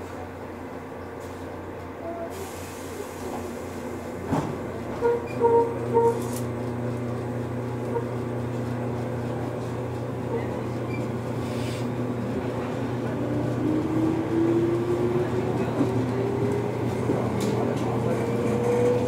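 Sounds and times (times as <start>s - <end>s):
electric train humming: 0.1s - 19.0s.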